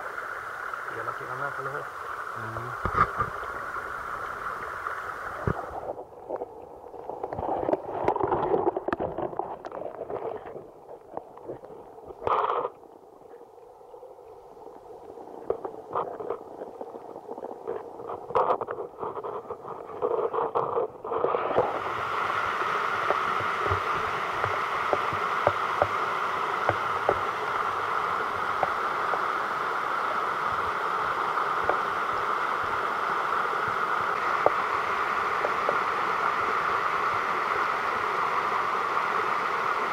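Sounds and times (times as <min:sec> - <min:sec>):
stream water rushing: 0:00.0 - 0:13.4, 0:14.0 - 0:39.9
underwater gurgling and bubbling: 0:00.0 - 0:38.8.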